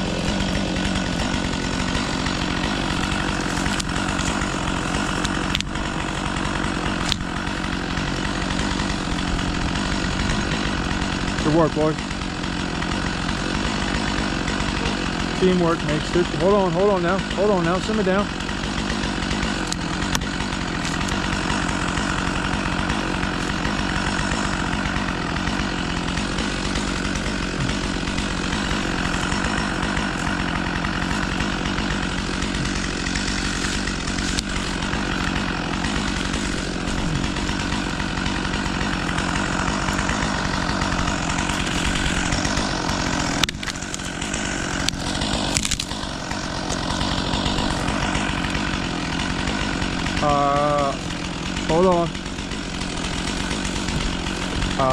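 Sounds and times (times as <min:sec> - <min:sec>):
chainsaw running: 0:00.0 - 0:54.9.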